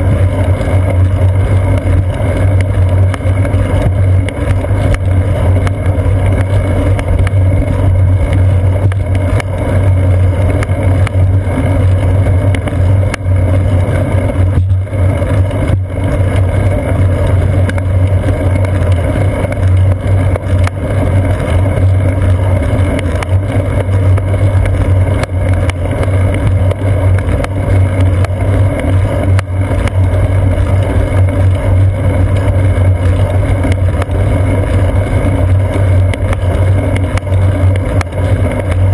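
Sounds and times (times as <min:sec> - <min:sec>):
wind and road vibration drone: 0:00.0 - 0:38.9.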